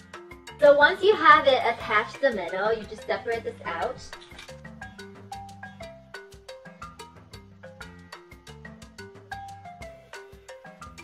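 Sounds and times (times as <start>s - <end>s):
light melody over bass line: 0.0s - 11.0s.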